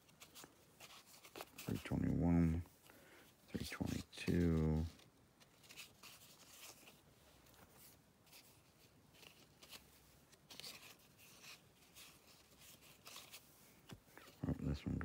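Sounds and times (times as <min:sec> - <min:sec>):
cardboard cards rustling: 0:00.0 - 0:15.0.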